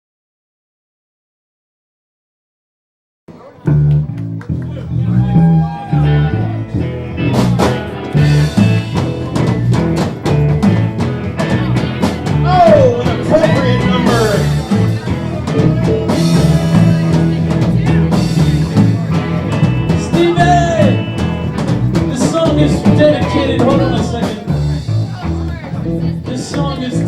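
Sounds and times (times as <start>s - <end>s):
electric guitar bent notes: 3.6s - 27.0s
live rock band playing: 3.6s - 27.0s.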